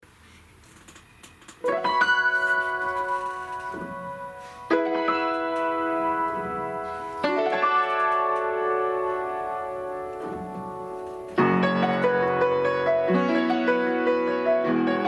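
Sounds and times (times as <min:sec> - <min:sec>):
piano chords ringing: 0:01.6 - 0:15.0.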